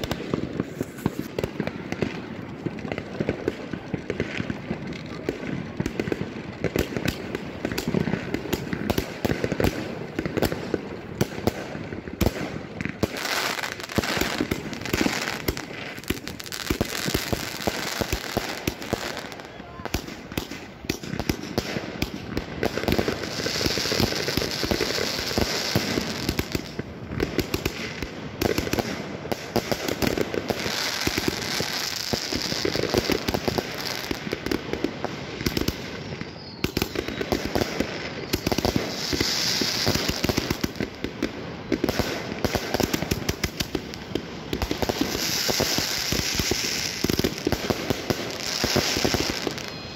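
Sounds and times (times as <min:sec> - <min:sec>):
firework battery popping and crackling: 0:00.0 - 0:49.9.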